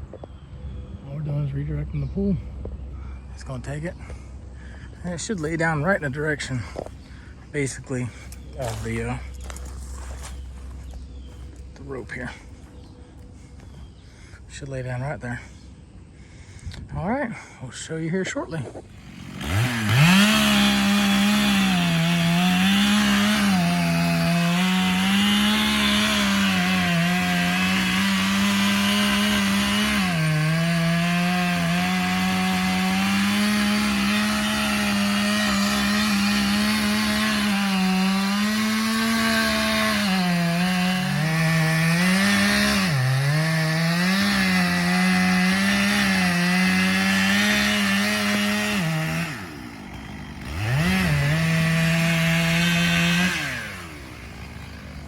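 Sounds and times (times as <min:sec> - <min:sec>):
chainsaw cutting tree trunk: 0:03.0 - 0:13.0, 0:18.7 - 0:55.0.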